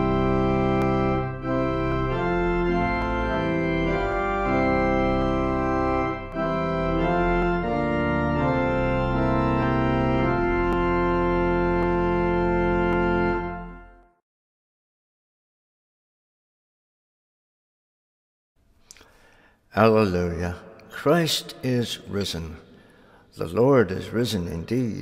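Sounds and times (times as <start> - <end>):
organ playing hymn chords: 0.0 - 14.2, 18.9 - 25.0.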